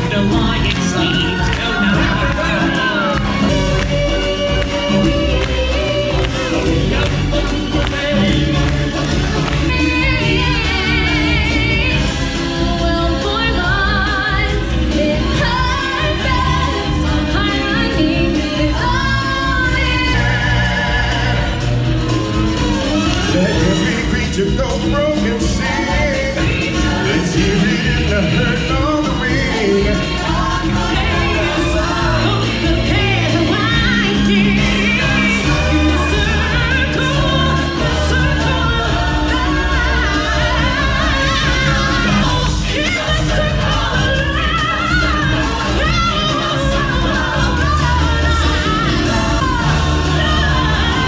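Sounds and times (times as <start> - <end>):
band music: 0.0 - 51.0
voices singing with vibrato: 0.0 - 51.0.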